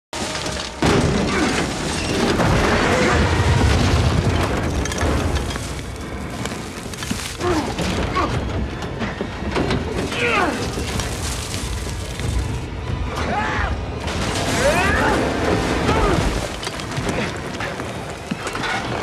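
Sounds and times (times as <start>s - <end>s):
action film music: 0.2s - 19.0s
dense rumbling din: 0.7s - 18.2s.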